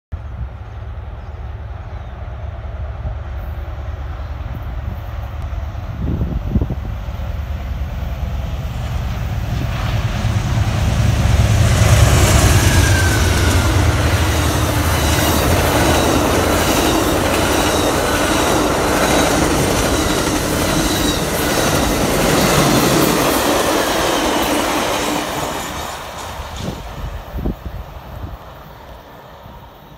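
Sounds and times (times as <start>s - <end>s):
diesel locomotives rumbling: 0.2s - 29.9s.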